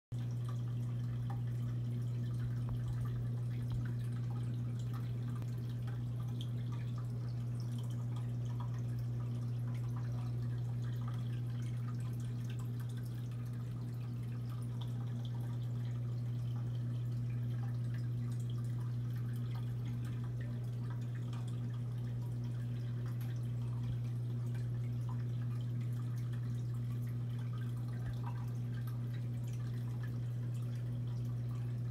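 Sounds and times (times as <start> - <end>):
aquarium pump humming: 0.2 - 31.9
water dripping and trickling: 0.2 - 31.9.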